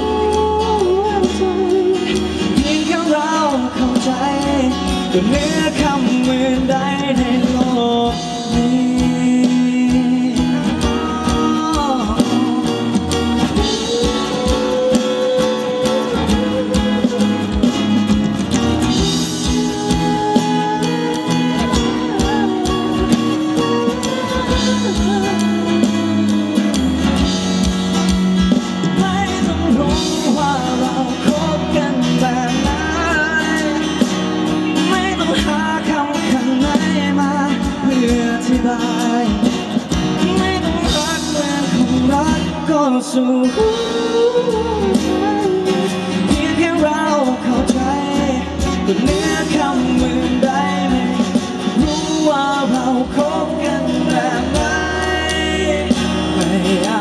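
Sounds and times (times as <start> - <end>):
instrumental accompaniment: 0.0 - 57.0
man singing into a microphone: 0.0 - 57.0.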